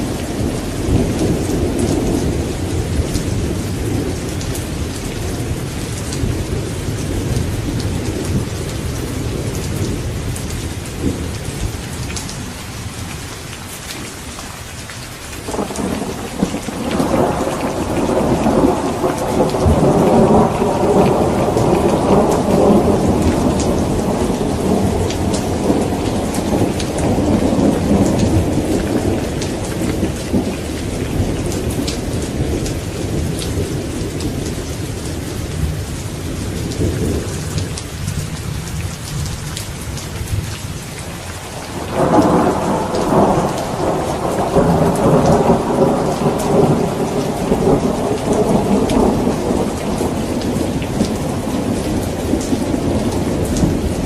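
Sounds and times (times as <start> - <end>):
rolling thunder: 0.0 - 11.8, 15.5 - 39.3, 41.5 - 54.0
rain pattering: 0.0 - 54.0.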